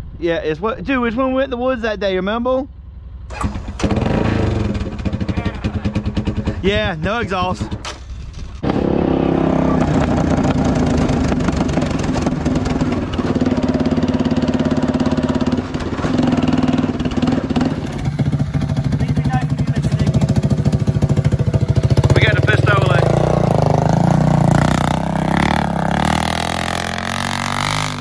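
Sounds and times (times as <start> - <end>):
unmuffled four-stroke engine running: 2.7 - 28.0.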